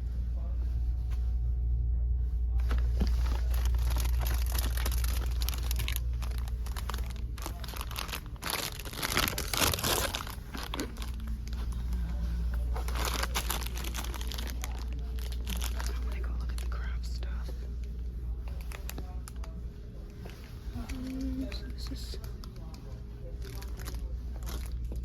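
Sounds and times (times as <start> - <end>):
steady low hum: 0.0 - 25.0
packaging crinkling and rustling: 2.6 - 17.0, 18.5 - 19.6, 20.3 - 25.0.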